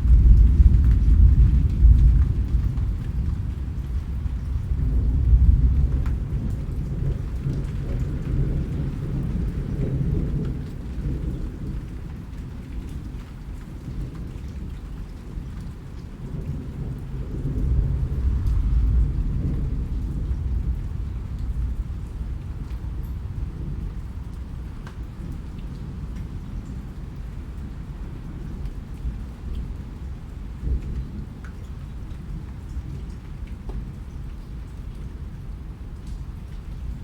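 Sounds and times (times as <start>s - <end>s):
rumble of thunder: 0.0s - 37.0s
steady rain: 0.0s - 37.0s.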